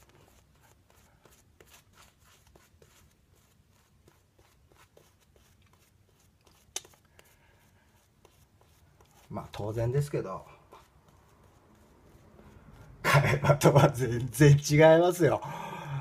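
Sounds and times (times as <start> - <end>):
razor scraping stubble: 0.0 - 14.3.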